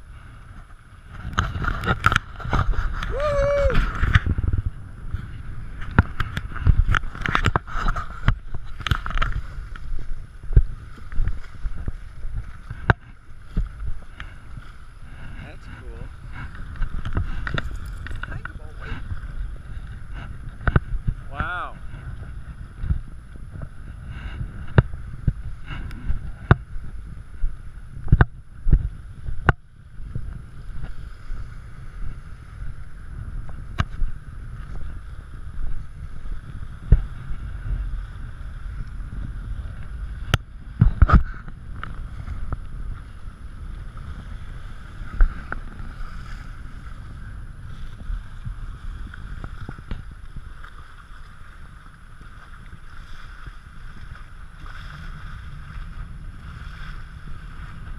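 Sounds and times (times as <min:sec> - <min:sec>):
wind rumbling on microphone: 0:00.0 - 0:57.9.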